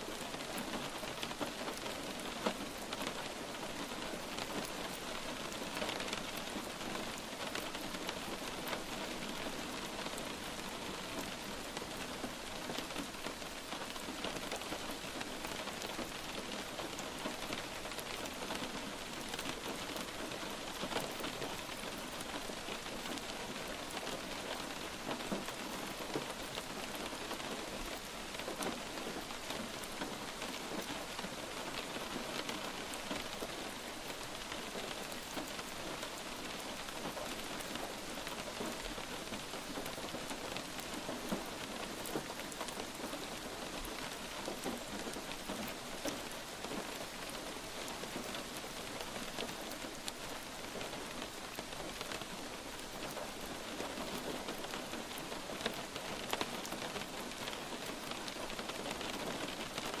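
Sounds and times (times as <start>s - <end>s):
light rain hissing: 0.0s - 60.0s.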